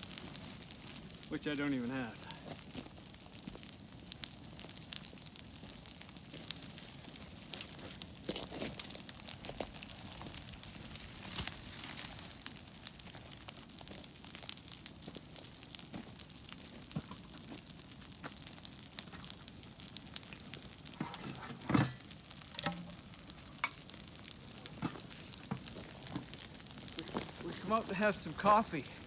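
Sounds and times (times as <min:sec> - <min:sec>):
campfire crackling and sizzling: 0:00.0 - 0:29.0.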